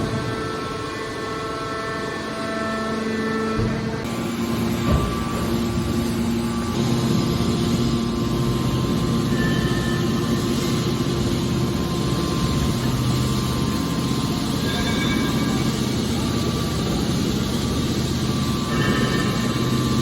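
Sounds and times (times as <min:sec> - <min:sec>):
hydraulic baler humming: 0:00.0 - 0:20.0.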